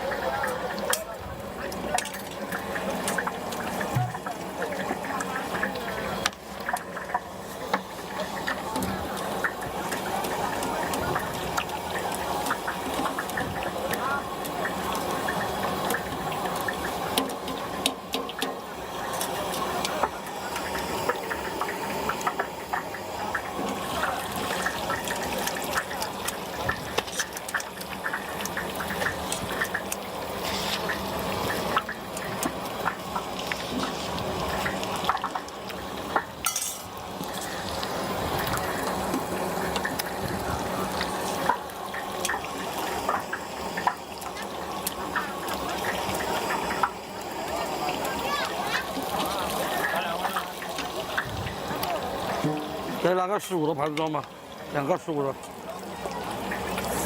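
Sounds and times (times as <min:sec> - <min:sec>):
tofu deep-frying in oil: 0:00.0 - 0:57.0.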